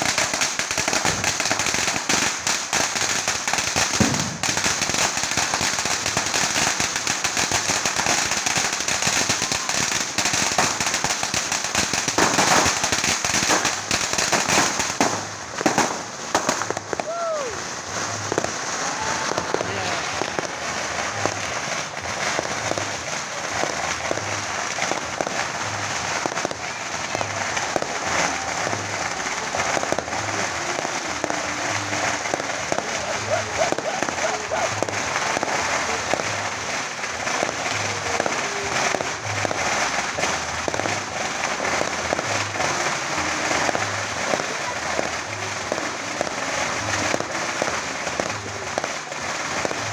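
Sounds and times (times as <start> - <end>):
firecrackers banging: 0.0 - 49.9.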